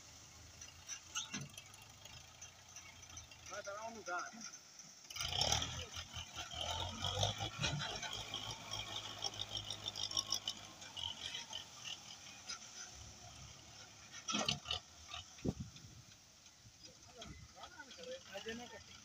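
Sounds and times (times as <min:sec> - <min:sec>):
tractor diesel engine humming: 0:00.0 - 0:19.0.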